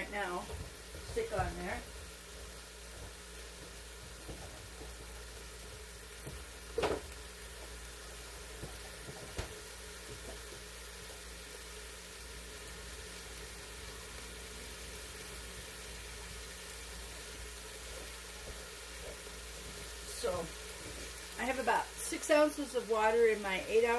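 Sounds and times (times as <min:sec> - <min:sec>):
meat sizzling in a pot: 0:00.0 - 0:23.9.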